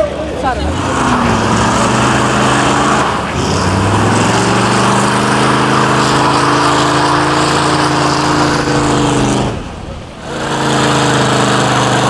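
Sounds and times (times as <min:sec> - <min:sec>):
car engine idling low: 0:00.0 - 0:12.0.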